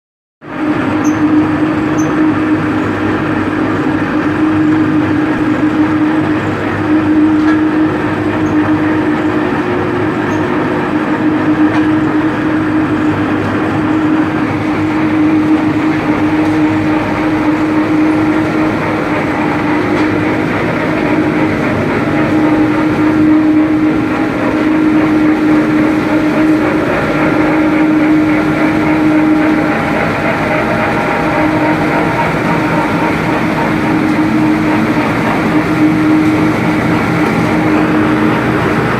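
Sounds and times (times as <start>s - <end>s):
drum dryer humming: 0.4s - 38.9s.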